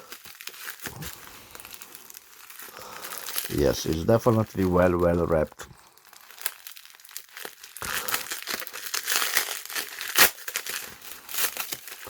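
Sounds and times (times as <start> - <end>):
packaging wrap crinkling: 0.0 - 12.0.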